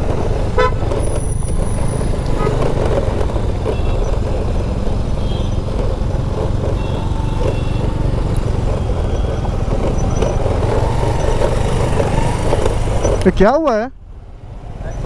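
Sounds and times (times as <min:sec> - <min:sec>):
scooter bumping on dirt road: 0:00.0 - 0:13.9
scooter engine low rumble: 0:00.0 - 0:15.0.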